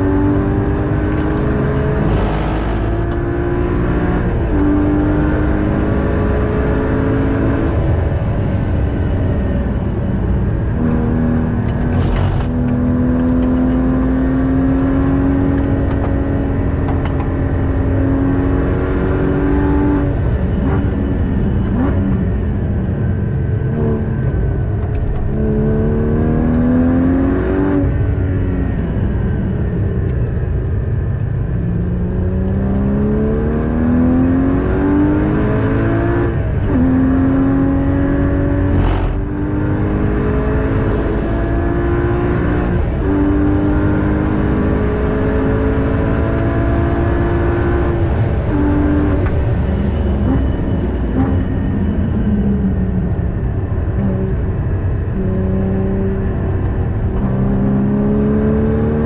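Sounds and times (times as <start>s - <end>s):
car engine revving in cabin: 0.0s - 59.0s
road and wind noise: 0.0s - 59.0s.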